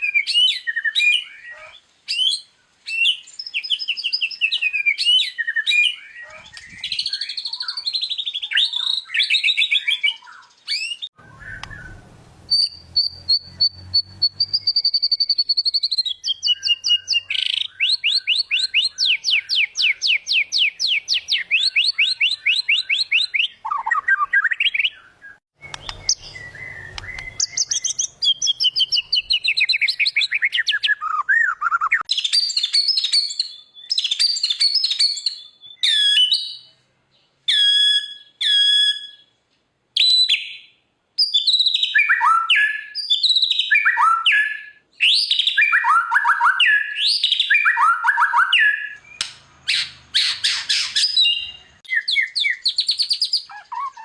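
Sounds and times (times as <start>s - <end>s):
bird singing varied song: 0.0s - 54.0s.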